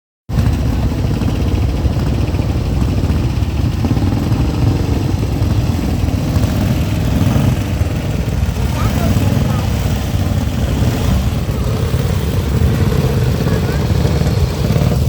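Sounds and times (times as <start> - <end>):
motorcycle engine rumbling: 0.3 - 15.0.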